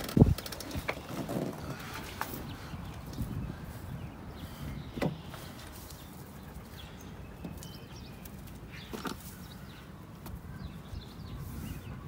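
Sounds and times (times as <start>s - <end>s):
birds chirping faintly: 0.1s - 12.0s.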